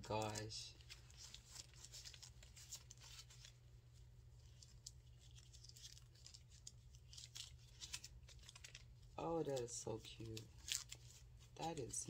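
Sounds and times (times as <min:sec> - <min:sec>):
low steady hum: 0:00.0 - 0:12.0
plastic film crinkling: 0:00.0 - 0:12.0.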